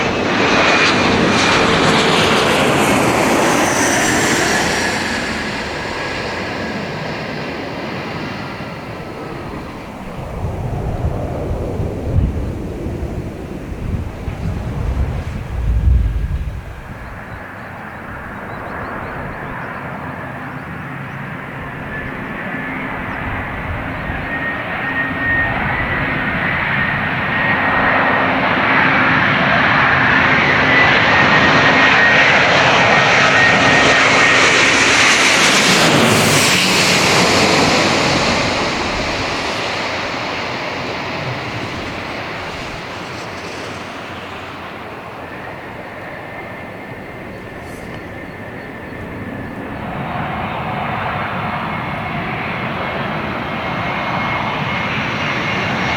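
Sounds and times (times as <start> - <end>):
jet airliner passing overhead: 0.0 - 55.9.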